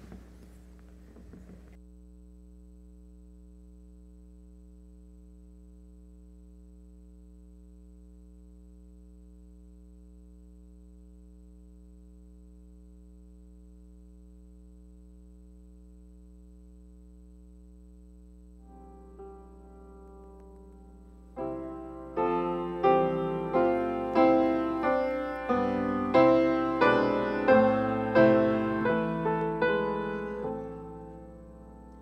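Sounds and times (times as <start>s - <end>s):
electrical mains hum: 0.0s - 32.0s
faint high-pitched whine: 0.0s - 32.0s.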